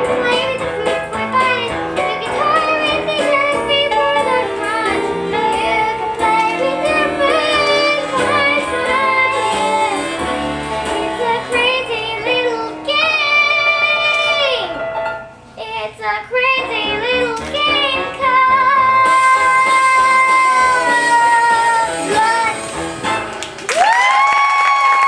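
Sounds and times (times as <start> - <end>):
child singing: 0.0 - 10.2, 11.0 - 14.8, 15.6 - 22.6
musical accompaniment: 0.0 - 24.0.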